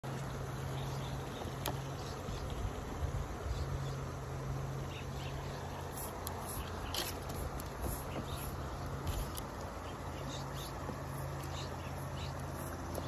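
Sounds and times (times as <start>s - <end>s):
low buzzing hum: 0.0s - 13.0s.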